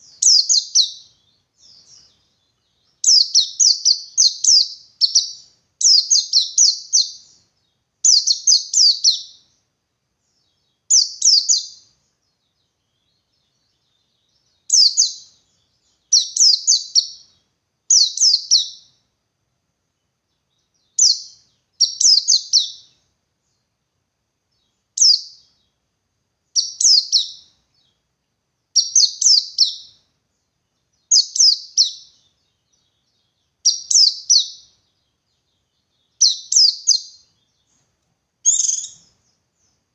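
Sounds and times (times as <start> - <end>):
bird twittering song: 0.0 - 19.2, 19.8 - 23.8, 24.5 - 39.9.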